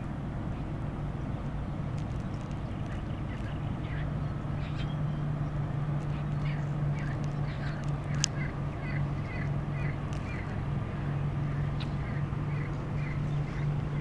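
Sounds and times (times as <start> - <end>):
low steady hum: 0.0 - 14.0
birds calling: 0.4 - 14.0.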